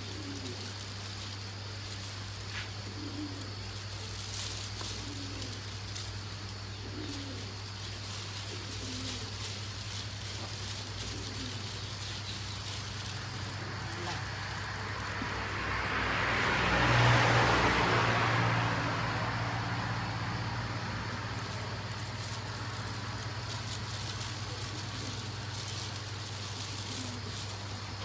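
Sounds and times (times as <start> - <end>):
vehicle passing by: 0.1 - 28.0.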